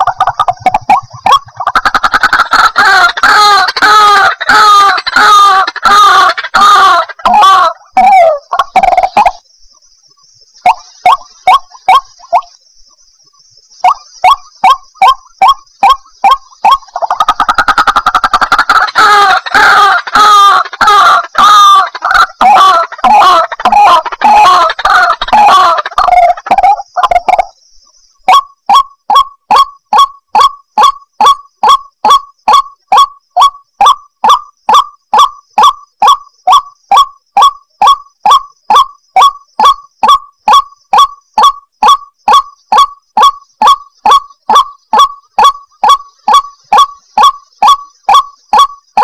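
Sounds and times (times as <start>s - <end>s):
waterhen calling: 0.0s - 9.4s, 10.6s - 12.6s, 13.8s - 27.5s, 28.3s - 49.0s.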